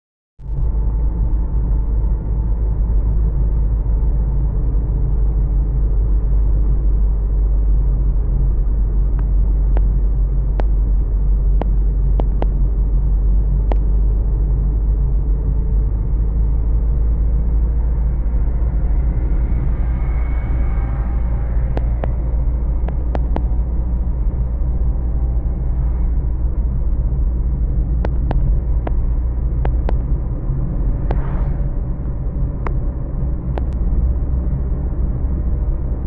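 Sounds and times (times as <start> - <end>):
wind blowing against microphone: 6.4 - 36.0.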